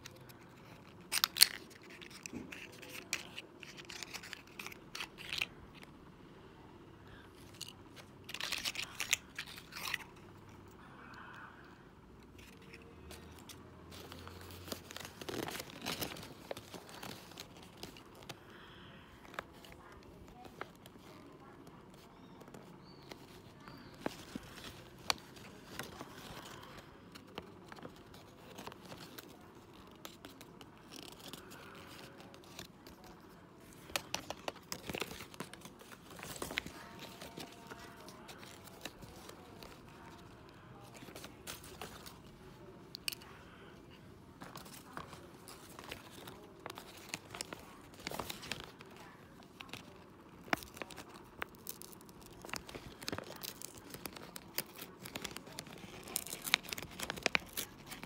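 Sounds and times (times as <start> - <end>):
paper rustling and crinkling: 0.0 - 5.9, 12.3 - 18.5, 19.2 - 43.3, 43.9 - 58.0.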